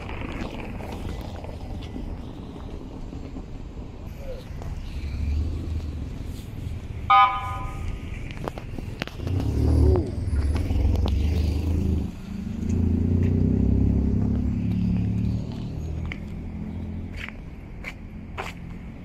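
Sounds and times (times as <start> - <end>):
car engines passing: 0.0 - 19.0.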